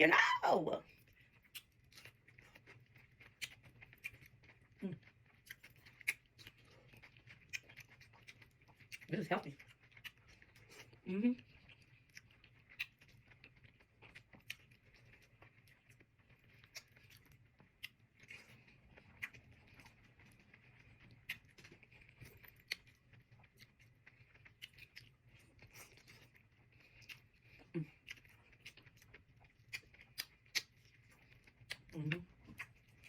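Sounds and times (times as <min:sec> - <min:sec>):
chewing raw vegetables: 0:00.1 - 0:33.0.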